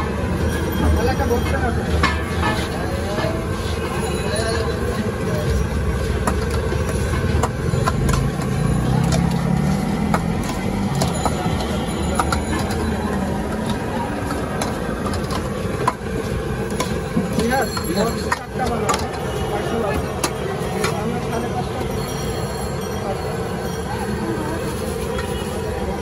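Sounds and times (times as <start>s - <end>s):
kitchen utensils clinking: 0.0s - 26.0s
street traffic: 0.0s - 26.0s.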